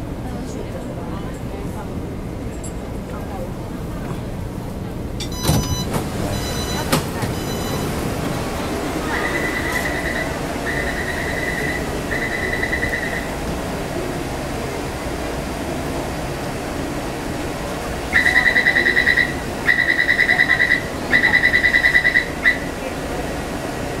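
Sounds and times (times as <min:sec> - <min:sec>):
metro train rumble: 0:00.0 - 0:24.0.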